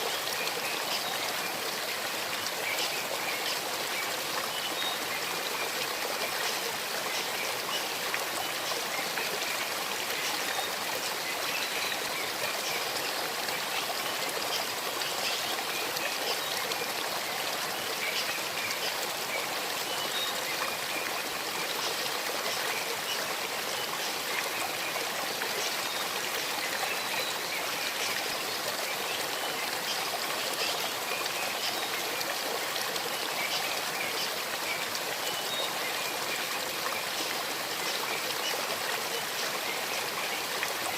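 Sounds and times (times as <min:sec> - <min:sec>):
stream babbling over stones: 0:00.0 - 0:40.9
water trickling and splashing: 0:00.0 - 0:40.9.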